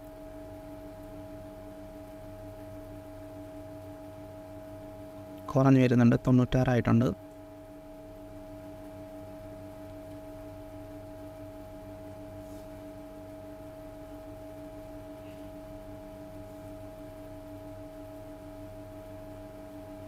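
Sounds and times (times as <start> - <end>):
steady two-tone hum: 0.0 - 20.0.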